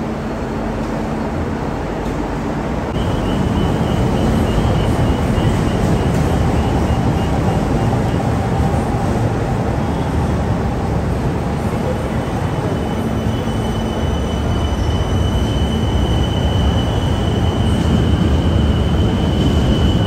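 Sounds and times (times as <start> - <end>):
train rumble and hum: 0.0 - 20.0.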